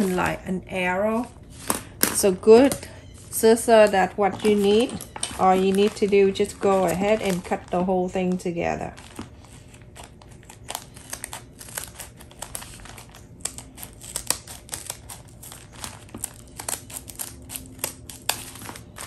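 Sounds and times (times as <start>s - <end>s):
paper crinkling: 0.0s - 19.0s
scissors snipping paper: 1.1s - 19.0s.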